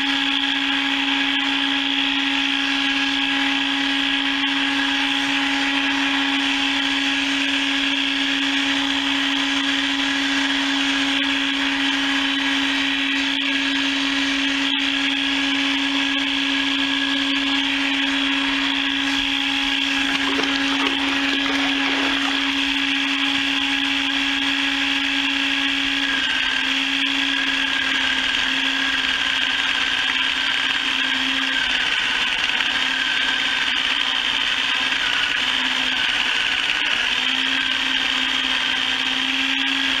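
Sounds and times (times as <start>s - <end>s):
chicken plucker motor running: 0.0s - 40.0s.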